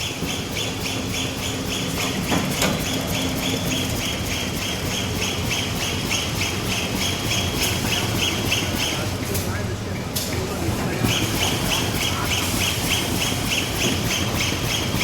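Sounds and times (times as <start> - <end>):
bag making machine cycling: 0.0 - 15.0
low mechanical hum: 0.0 - 15.0.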